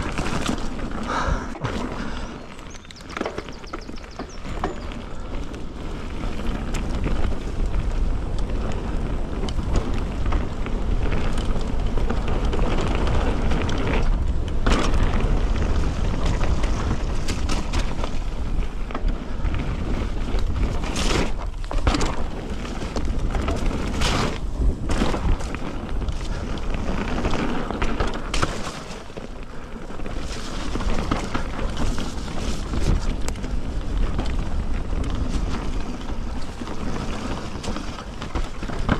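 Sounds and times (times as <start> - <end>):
bike chain and frame rattling: 0.0 - 38.9
bike tyres rolling over dirt: 0.0 - 38.9
sharp clatters over bumps: 0.0 - 38.9
wind rumble on microphone: 0.0 - 38.9.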